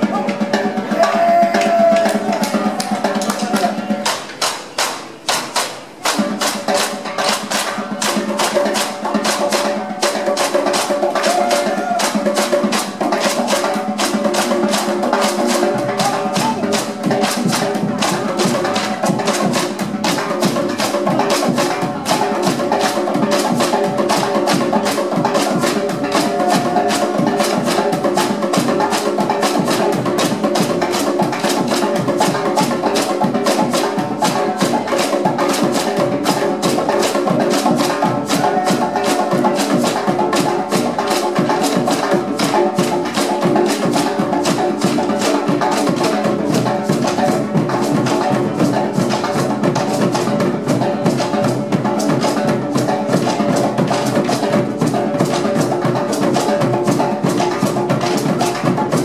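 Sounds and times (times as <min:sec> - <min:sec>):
hand drums playing fast rhythm: 0:00.0 - 0:59.0.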